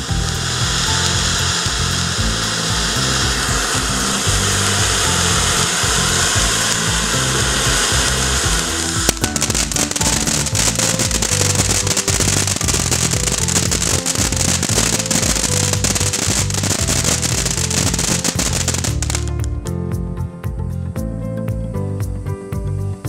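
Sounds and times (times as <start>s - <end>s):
firework crackling: 0.0s - 19.5s
firework spraying sparks: 0.0s - 19.5s
background music with bass: 0.0s - 23.0s.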